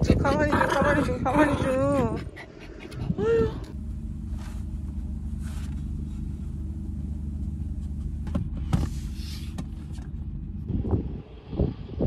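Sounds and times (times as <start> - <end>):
car engine idling: 1.0 - 11.9.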